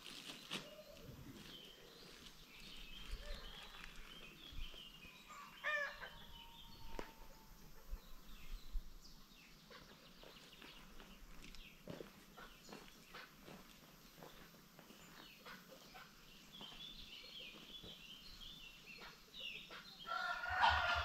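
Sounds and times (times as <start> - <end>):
chickens calling: 0.2 - 21.0.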